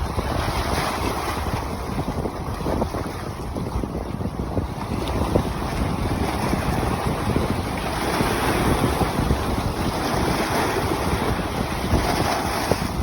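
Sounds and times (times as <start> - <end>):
ocean waves washing: 0.0 - 13.0
wind buffeting microphone: 0.0 - 13.0.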